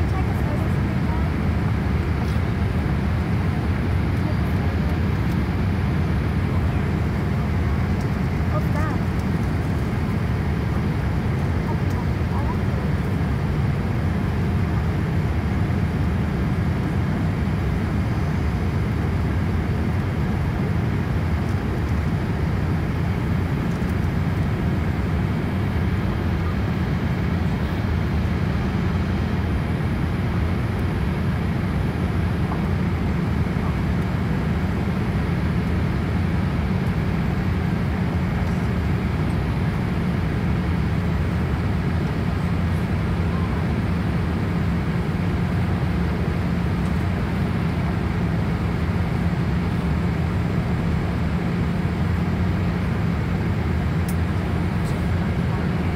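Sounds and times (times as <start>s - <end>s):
aircraft engines and airflow rumble: 0.0s - 55.9s.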